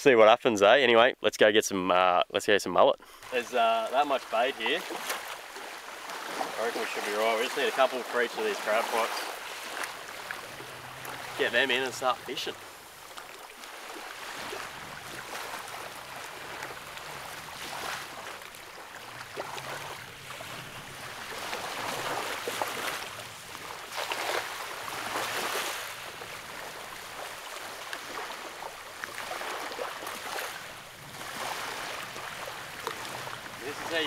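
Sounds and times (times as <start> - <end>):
water splashing and sloshing: 3.0 - 34.0.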